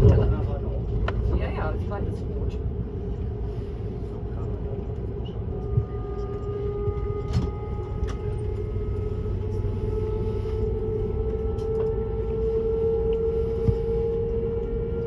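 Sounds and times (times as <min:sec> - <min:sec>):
train rumble with humming tone: 0:00.0 - 0:15.0.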